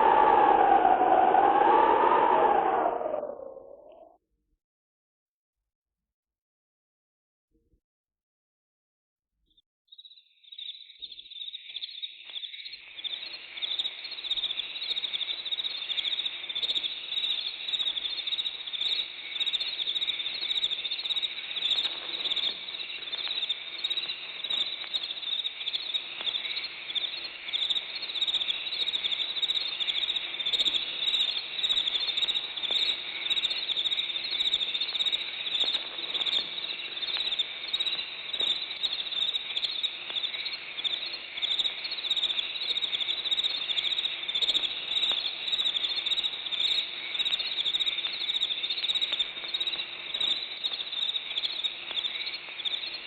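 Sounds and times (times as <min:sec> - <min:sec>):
crickets chirping: 0:00.0 - 0:04.0, 0:10.6 - 0:53.0.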